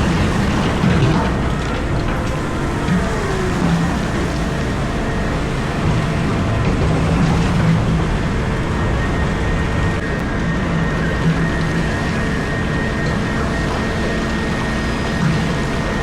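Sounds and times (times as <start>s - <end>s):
excavator engine rumbling: 0.0s - 16.0s
faint hydraulic whine: 0.0s - 16.0s.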